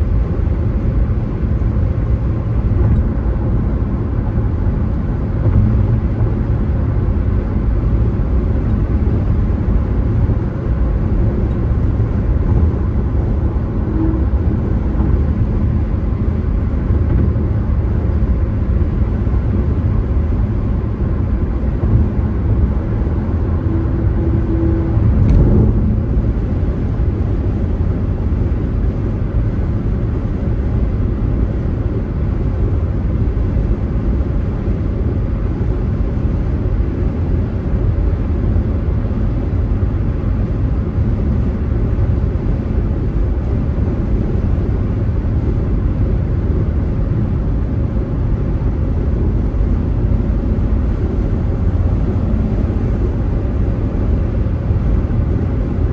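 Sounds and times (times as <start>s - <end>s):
car tyre and engine rumble: 0.0s - 55.9s.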